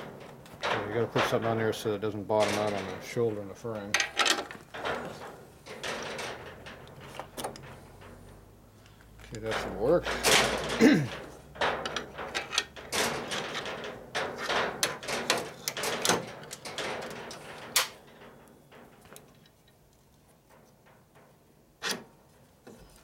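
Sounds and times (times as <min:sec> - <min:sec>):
wind gusting and rattling building: 0:00.0 - 0:19.7.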